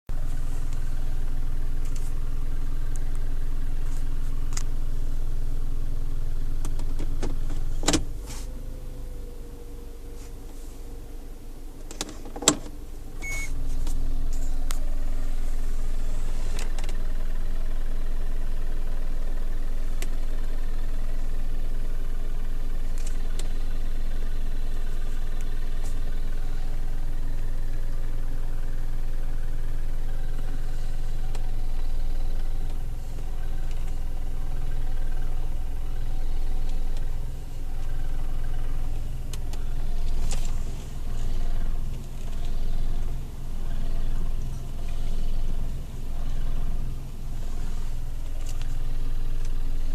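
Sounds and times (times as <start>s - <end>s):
car engine running: 0.1s - 49.9s
engine knocking and rattling: 0.1s - 49.9s.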